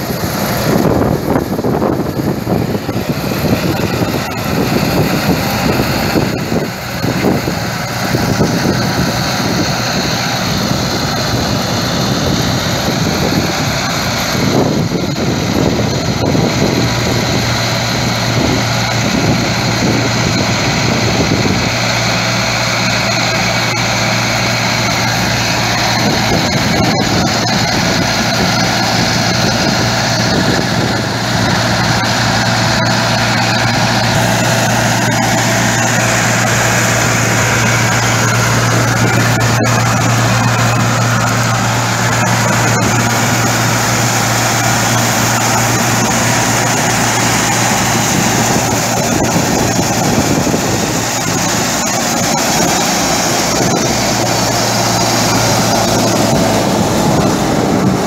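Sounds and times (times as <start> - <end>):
steady low hum: 0.0 - 58.0
straw reaper cutting and blowing: 0.0 - 58.0
tractor diesel engine under load: 0.0 - 58.0.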